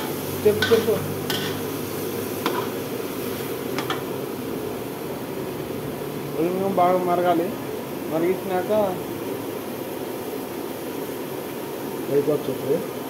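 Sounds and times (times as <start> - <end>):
food frying with hiss: 0.0 - 13.0.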